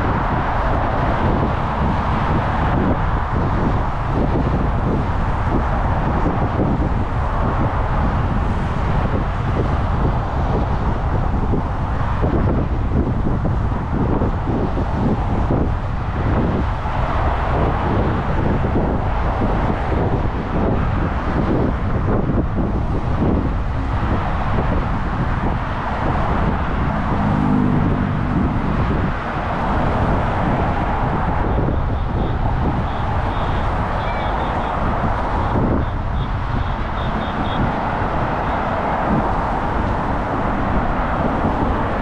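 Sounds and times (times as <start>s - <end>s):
cars passing close by: 0.0s - 42.0s
engine hum: 0.0s - 42.0s
wind buffeting microphone: 0.0s - 42.0s.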